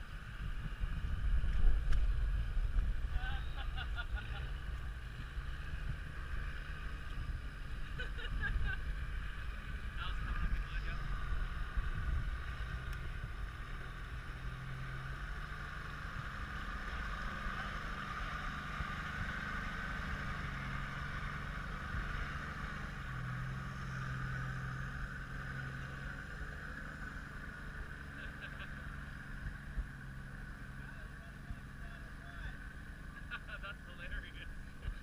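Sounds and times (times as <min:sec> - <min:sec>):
vehicle engine at low revs: 0:00.0 - 0:35.0.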